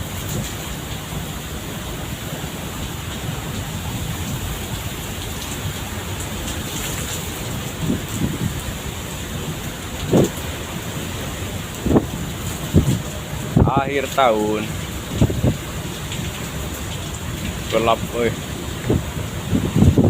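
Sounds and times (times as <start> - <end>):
heavy rain and wind: 0.0 - 20.0.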